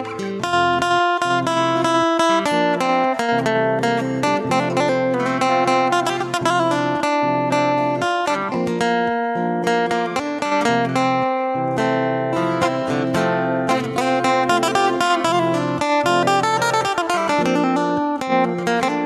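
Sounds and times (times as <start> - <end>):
plucked acoustic guitar: 0.0 - 19.0.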